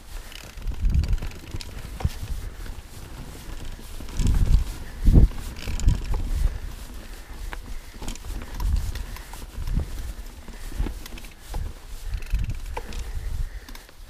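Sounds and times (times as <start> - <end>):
wind rumble on microphone: 0.0 - 13.7.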